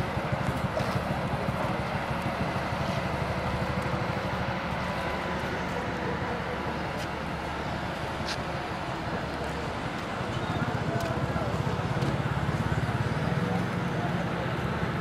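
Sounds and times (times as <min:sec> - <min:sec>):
engine rumble: 0:00.0 - 0:15.0
harbour noise: 0:00.0 - 0:15.0.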